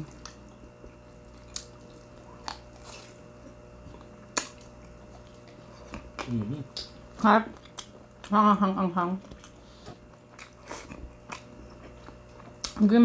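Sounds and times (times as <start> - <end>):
quiet chewing: 0.0 - 8.4, 9.2 - 12.9.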